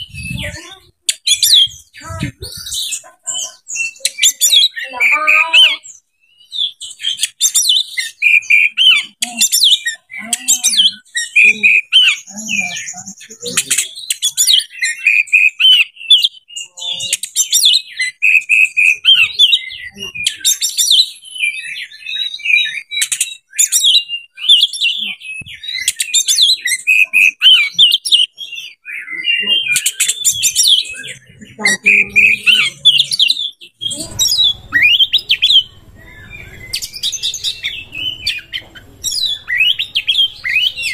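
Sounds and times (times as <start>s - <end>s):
bird singing chirps and whistles: 0.0s - 40.9s.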